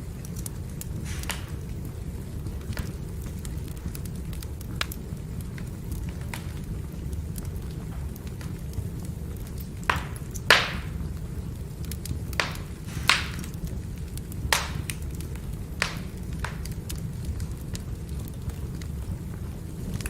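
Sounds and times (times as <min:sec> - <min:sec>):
firewood crackling and popping: 0:00.0 - 0:20.0
low rumble of fire: 0:00.0 - 0:20.0.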